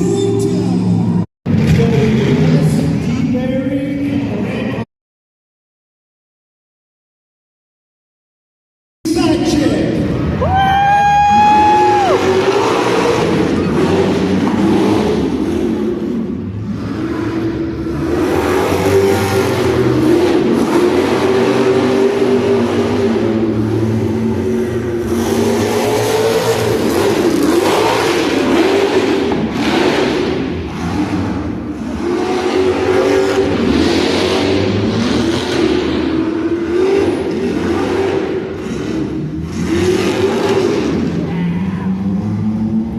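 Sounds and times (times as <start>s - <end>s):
monster truck engine revving: 0.0s - 4.8s, 9.1s - 42.9s.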